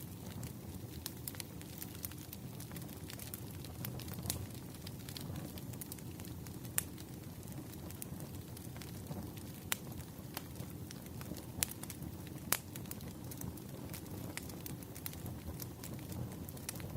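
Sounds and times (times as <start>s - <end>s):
fire crackling and popping: 0.0s - 16.9s
wood fire rumbling: 0.0s - 16.9s.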